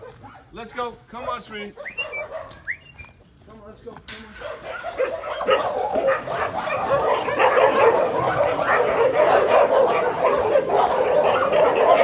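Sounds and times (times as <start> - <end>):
many dogs barking and yelping: 0.0 - 2.9, 4.3 - 12.0.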